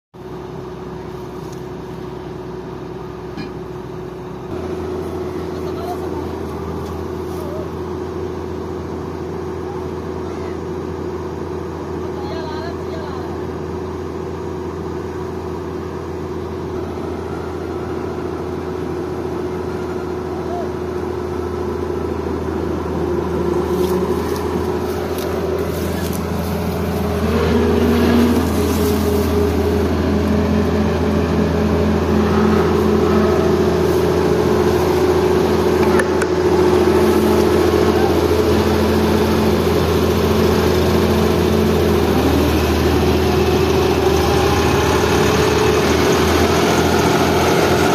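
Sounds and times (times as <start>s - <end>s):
combine harvester running: 0.2s - 47.9s.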